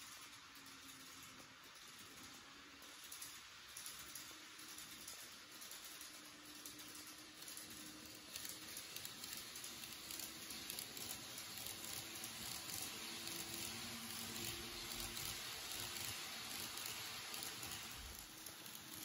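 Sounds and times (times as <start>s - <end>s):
faint motor hum: 0.0s - 19.0s
train wheels rattling on rails: 0.0s - 19.0s.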